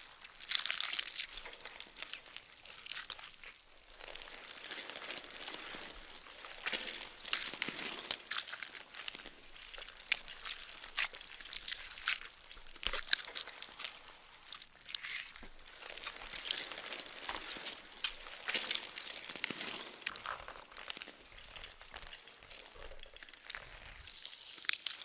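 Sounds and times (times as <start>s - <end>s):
wet crunching and crackling: 0.0s - 25.0s.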